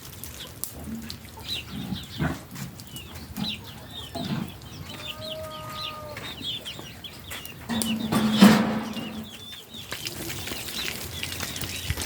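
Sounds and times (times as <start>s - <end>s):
chickens clucking: 0.4s - 12.0s.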